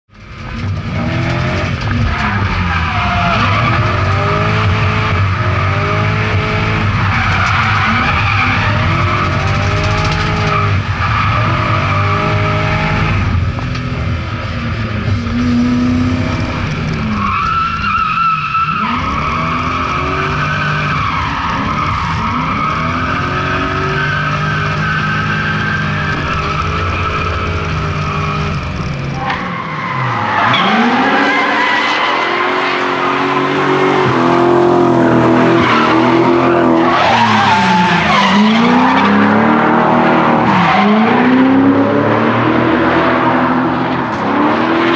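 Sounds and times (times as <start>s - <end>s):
car engine revving: 0.1s - 44.9s
tyres squealing and skidding: 1.1s - 13.3s, 15.4s - 44.9s.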